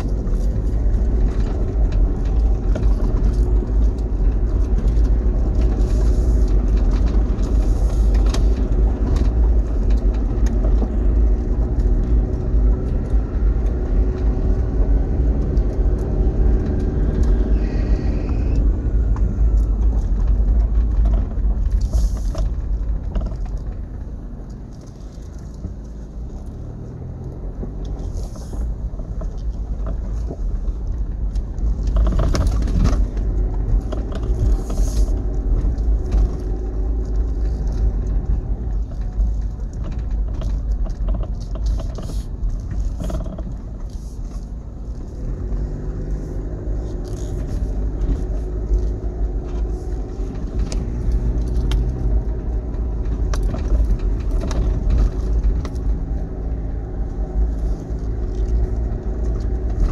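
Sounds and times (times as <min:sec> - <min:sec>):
engine and tyres rumbling: 0:00.0 - 0:59.9
knocks and rattles over bumps: 0:00.0 - 0:59.9.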